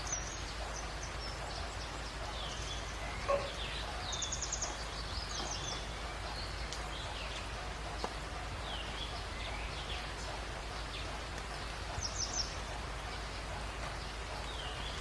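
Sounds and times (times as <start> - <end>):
steady background hiss: 0.0 - 15.0
wild birds chirping: 0.0 - 15.0.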